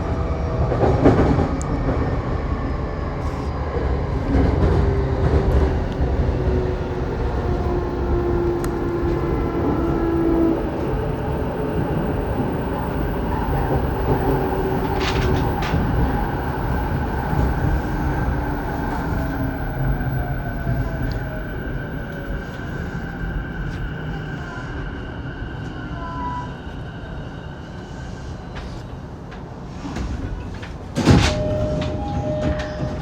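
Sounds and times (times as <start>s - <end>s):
train wheels rumbling on rail: 0.0s - 26.9s, 27.7s - 33.0s.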